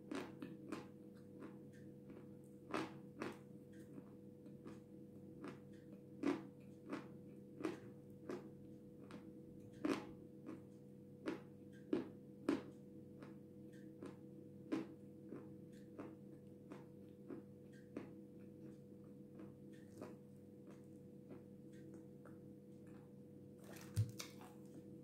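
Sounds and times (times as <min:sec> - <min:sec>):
soft crunches of clay chewing: 0:00.1 - 0:24.8.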